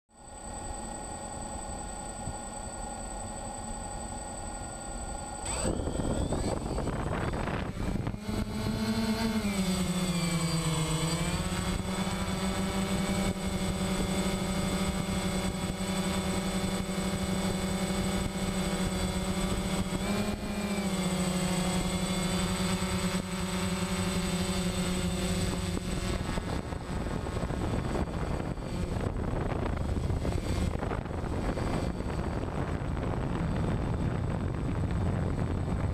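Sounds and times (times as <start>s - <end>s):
drone propellers buzzing: 0.1s - 35.9s
wind noise: 5.4s - 35.9s.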